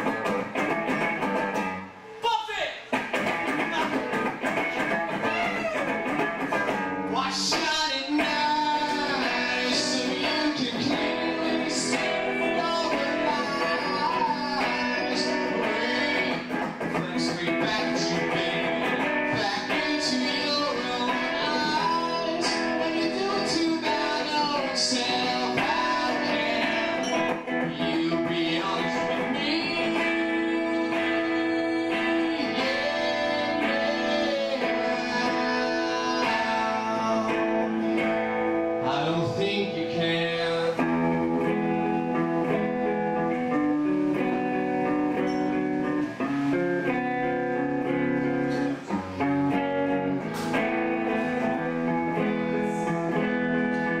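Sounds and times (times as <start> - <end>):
electric guitar: 0.0 - 54.0
man singing: 7.1 - 44.8, 46.9 - 54.0.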